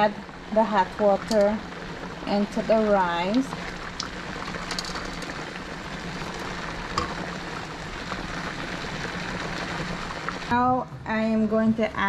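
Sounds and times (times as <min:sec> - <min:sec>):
water bubbling and hissing: 0:00.3 - 0:10.5.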